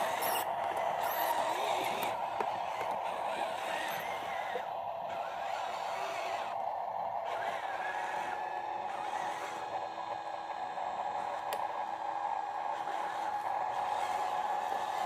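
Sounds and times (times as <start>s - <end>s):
toy electric motor whining: 0.0s - 15.0s.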